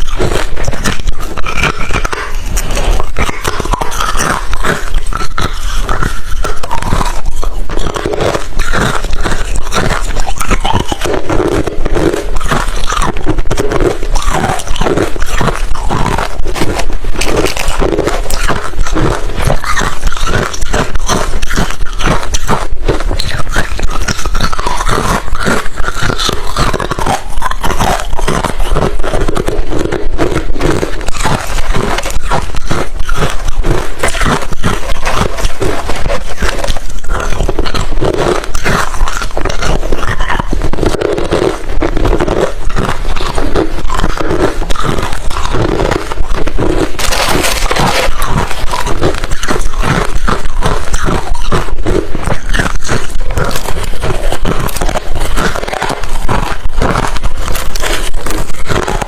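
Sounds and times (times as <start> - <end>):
crunching ice between teeth: 0.0 - 59.0.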